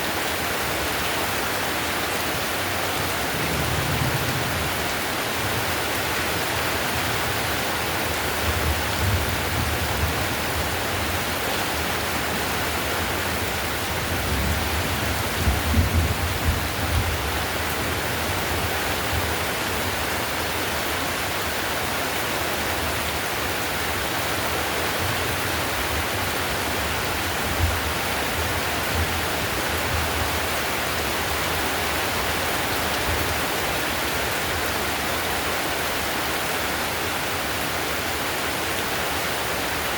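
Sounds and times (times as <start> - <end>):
heavy rain on a tiled roof: 0.0 - 39.9.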